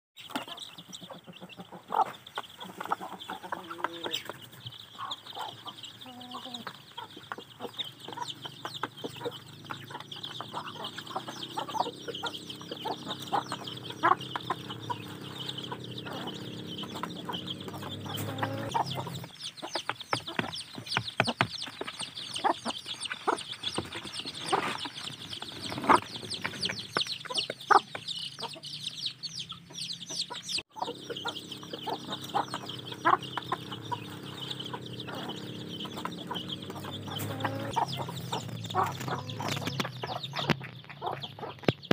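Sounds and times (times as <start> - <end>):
beaks pecking at trough: 0.2 - 5.8, 6.4 - 28.8, 30.4 - 41.9
chicks peeping: 0.2 - 41.9
hens clucking: 0.2 - 41.9.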